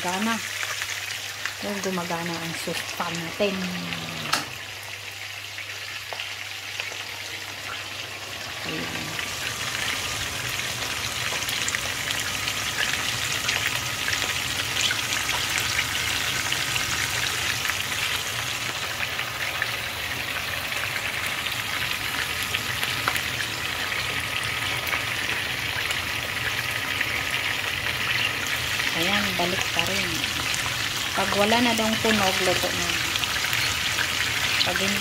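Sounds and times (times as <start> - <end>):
fish frying in oil: 0.0 - 35.0.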